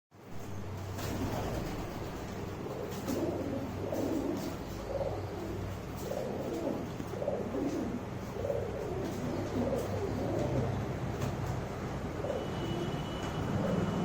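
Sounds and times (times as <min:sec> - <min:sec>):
pigeons cooing: 0:00.8 - 0:14.0.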